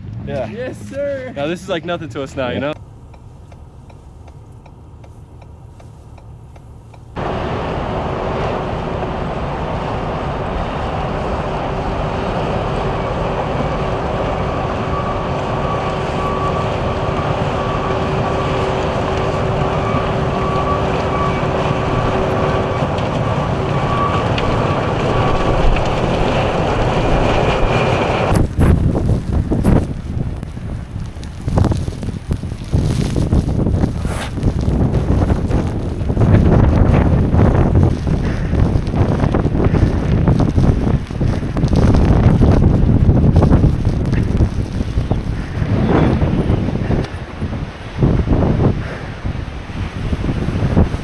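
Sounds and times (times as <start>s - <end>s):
steady hum: 2.8s - 47.6s
wind buffeting microphone: 6.7s - 51.0s.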